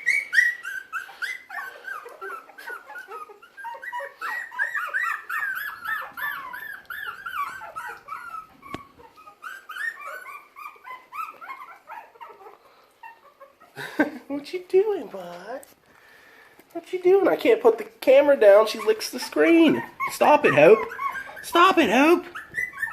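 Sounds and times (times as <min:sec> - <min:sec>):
puppies whimpering and squealing: 0:00.0 - 0:14.3, 0:18.2 - 0:22.9.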